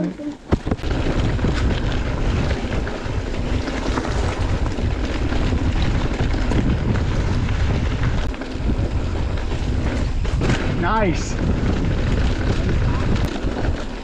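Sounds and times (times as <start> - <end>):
bike rattles: 0.0 - 14.0
tyres rolling on gravel: 0.3 - 14.0
wind buffeting microphone: 0.4 - 14.0.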